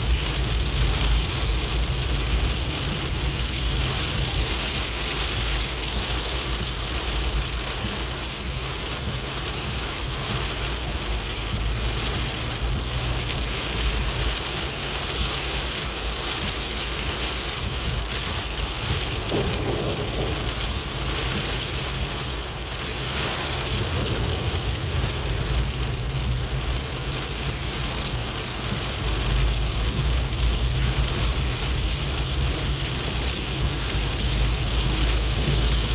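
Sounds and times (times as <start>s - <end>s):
low rumble: 0.0s - 35.9s
rain falling: 0.0s - 35.9s.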